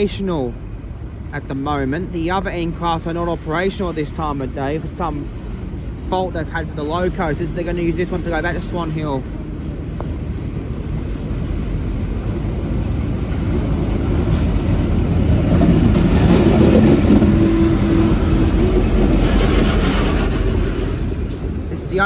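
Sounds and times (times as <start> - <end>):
diesel locomotive engine drone: 0.0 - 22.0
train rail rumble: 0.0 - 22.0.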